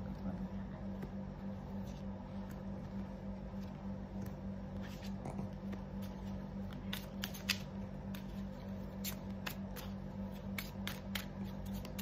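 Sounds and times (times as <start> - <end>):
steady low hum: 0.0 - 12.0
cards being shuffled: 1.0 - 12.0.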